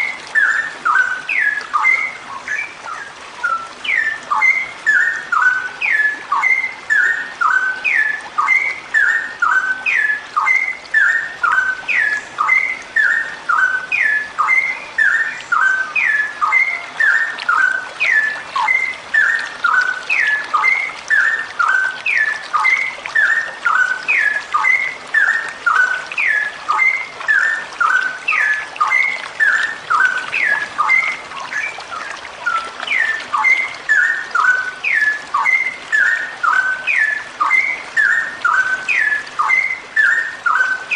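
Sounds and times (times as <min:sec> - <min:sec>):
bird whistling calls: 0:00.0 - 0:40.9.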